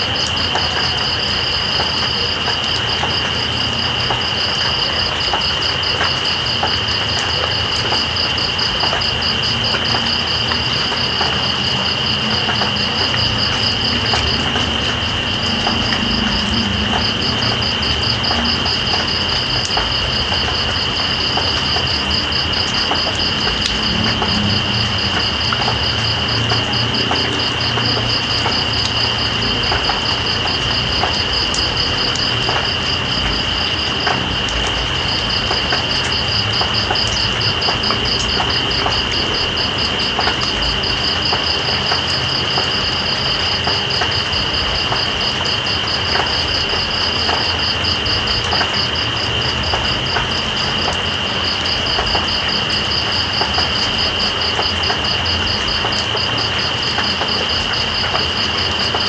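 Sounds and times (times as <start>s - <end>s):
rain falling: 0.0s - 59.0s
water drips: 0.1s - 59.0s.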